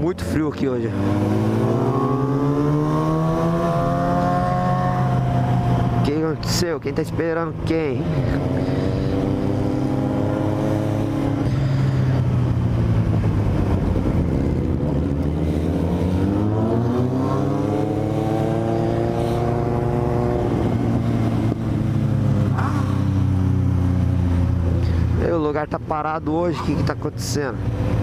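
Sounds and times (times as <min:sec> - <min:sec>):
motorcycle engine revving: 0:00.8 - 0:25.2.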